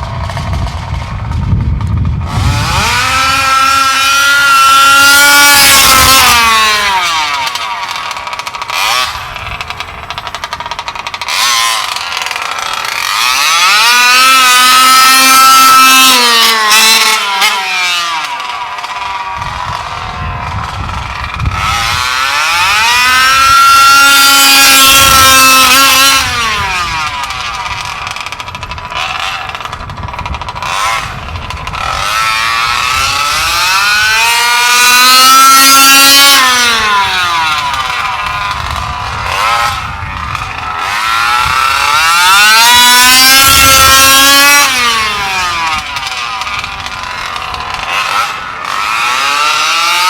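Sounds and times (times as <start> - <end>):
two-stroke engine screaming: 0.0 - 50.0.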